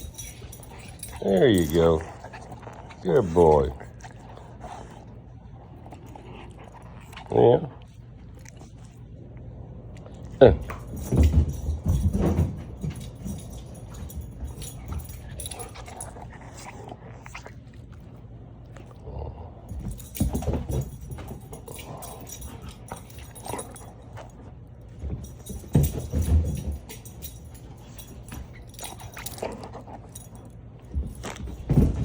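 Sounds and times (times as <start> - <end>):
dog playing with a toy: 0.0 - 9.1, 10.0 - 18.9, 19.6 - 32.0.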